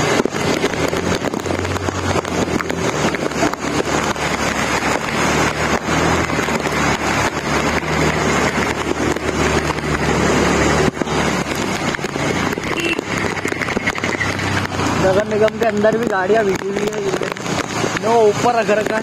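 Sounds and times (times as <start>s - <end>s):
heavy rain hiss: 0.0s - 19.0s
motorcycle engine at low speed: 0.0s - 19.0s
water splashing: 0.0s - 19.0s.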